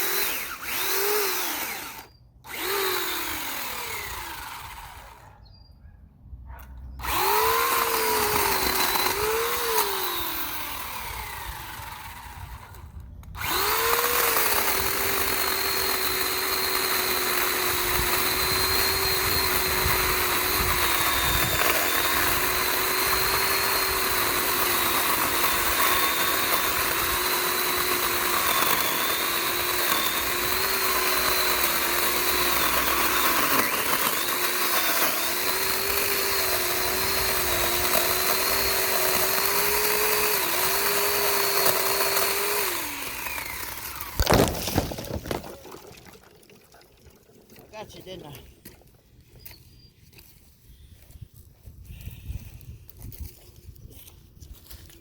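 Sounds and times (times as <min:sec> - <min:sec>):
electric chainsaw cutting wood: 0:00.0 - 0:05.4, 0:07.0 - 0:45.6, 0:47.6 - 0:48.8.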